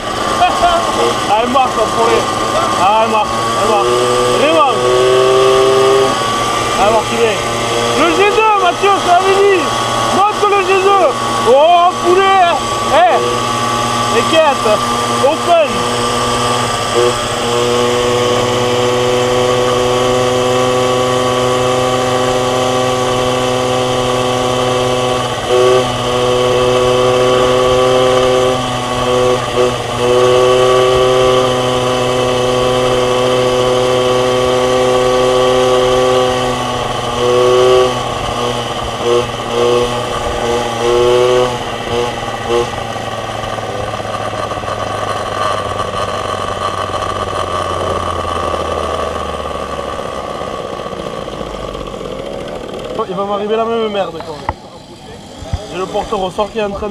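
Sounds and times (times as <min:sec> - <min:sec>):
two-stroke moped engine revving: 0:00.0 - 0:56.9.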